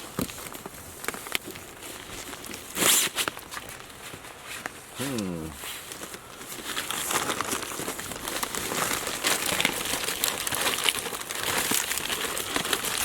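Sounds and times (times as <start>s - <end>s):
plastic tarp crinkling: 0.0s - 13.0s.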